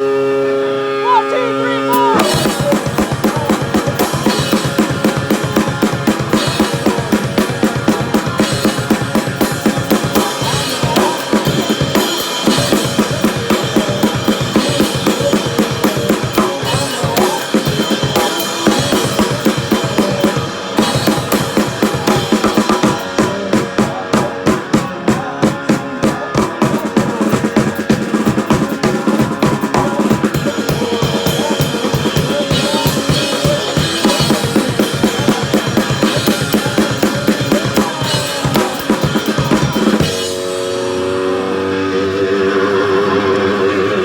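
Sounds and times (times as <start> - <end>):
band instruments: 0.0 - 44.0
drum kit fast beat: 1.1 - 41.3.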